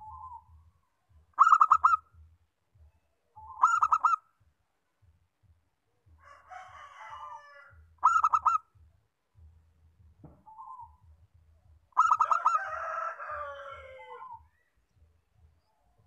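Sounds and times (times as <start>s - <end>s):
dove singing: 0.0s - 16.0s.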